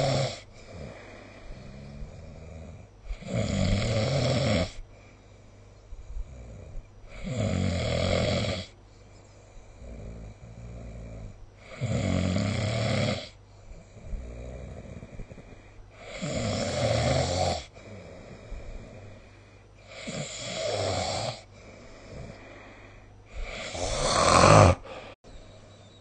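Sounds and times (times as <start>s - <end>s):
quiet breathing: 0.0s - 4.0s, 4.6s - 7.4s, 8.6s - 11.9s, 13.3s - 16.9s, 17.6s - 26.0s
person snoring: 0.0s - 4.8s, 6.0s - 8.8s, 9.6s - 25.2s.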